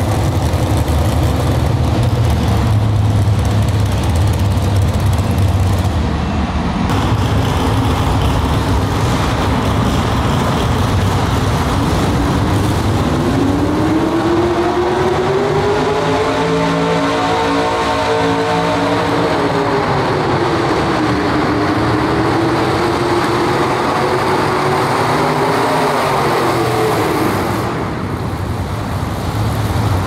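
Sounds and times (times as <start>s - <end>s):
truck engine revving: 0.0s - 6.2s, 6.9s - 30.0s
heavy engine drone: 0.0s - 30.0s.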